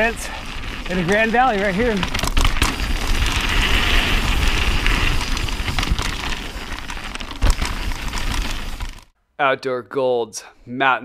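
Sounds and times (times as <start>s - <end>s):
bike knocking over bumps: 0.0s - 9.1s
bike tyre noise: 0.0s - 9.1s.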